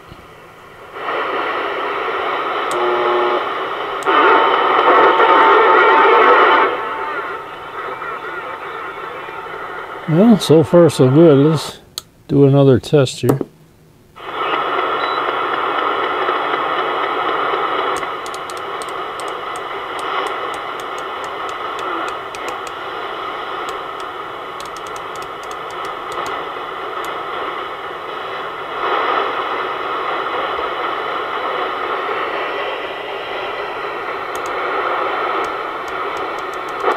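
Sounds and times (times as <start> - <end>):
radio static: 1.0 - 10.1, 14.2 - 36.9.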